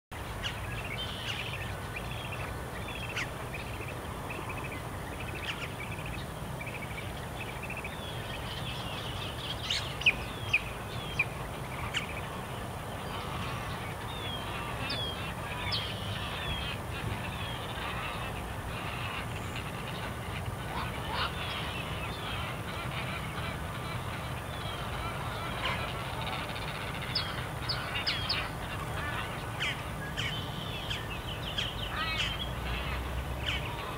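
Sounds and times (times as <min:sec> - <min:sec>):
low steady rumble: 0:00.2 - 0:33.9
birds chirping and calling: 0:00.3 - 0:33.9.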